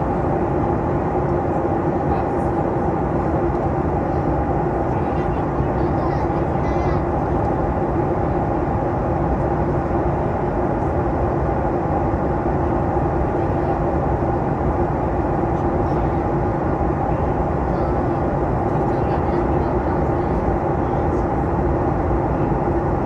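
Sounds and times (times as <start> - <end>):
engine and airflow rush: 0.0 - 23.0.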